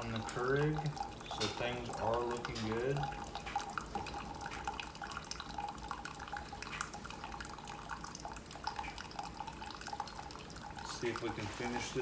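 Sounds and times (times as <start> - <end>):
coffee maker pump humming: 0.0 - 12.0
water sputtering and dripping: 0.0 - 12.0.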